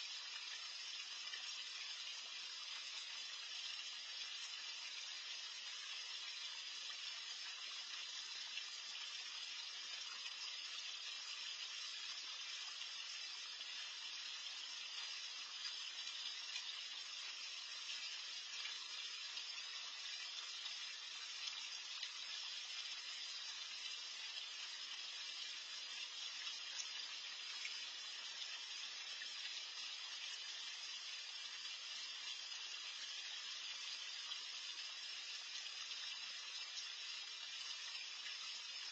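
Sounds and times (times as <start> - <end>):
pond water feature bubbling: 0.0 - 38.9.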